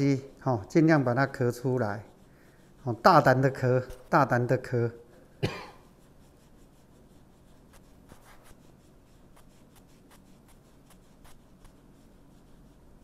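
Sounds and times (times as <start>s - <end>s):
hands rubbing skin: 0.8s - 4.9s, 5.8s - 13.0s.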